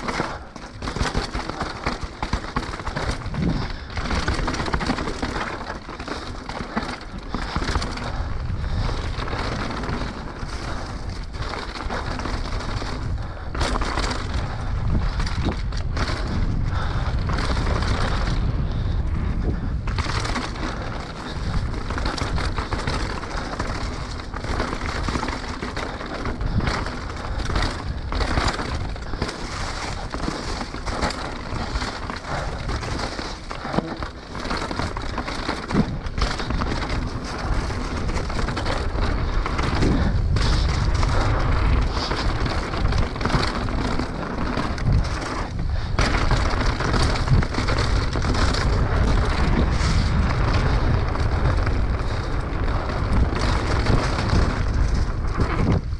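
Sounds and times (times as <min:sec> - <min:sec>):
tyres rumbling over ground: 0:00.0 - 0:15.1, 0:17.5 - 0:55.9
bike rattling and clattering: 0:00.0 - 0:55.9.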